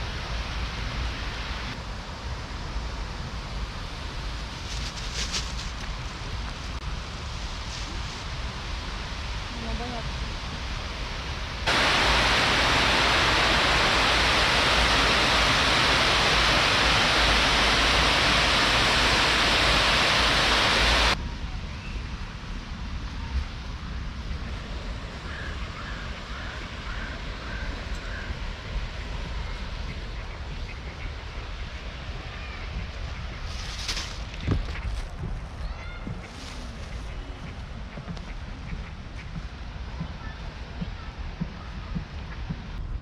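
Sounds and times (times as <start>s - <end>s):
loud steady rushing noise: 0.0s - 34.7s
steady outdoor hiss: 0.0s - 43.0s.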